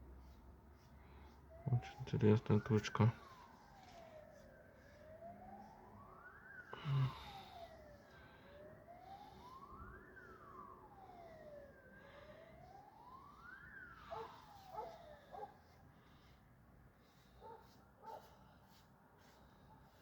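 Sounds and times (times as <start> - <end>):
siren wailing: 0.3 - 19.3.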